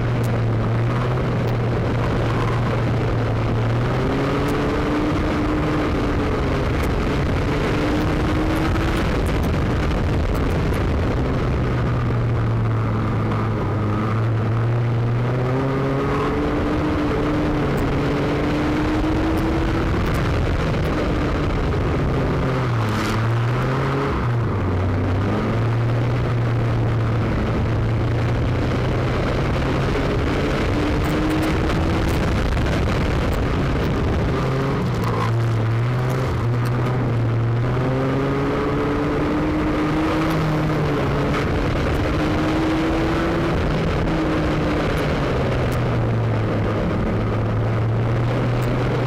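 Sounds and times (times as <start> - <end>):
car engine revving: 0.0 - 49.0
road and body noise: 0.0 - 49.0.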